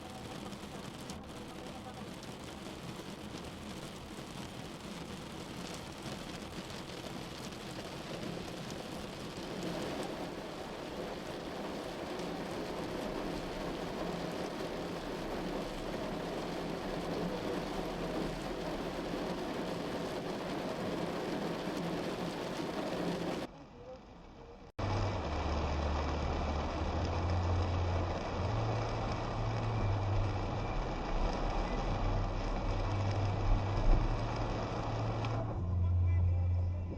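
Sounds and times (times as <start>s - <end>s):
heavy rain on car roof: 0.0s - 23.5s, 24.6s - 36.3s.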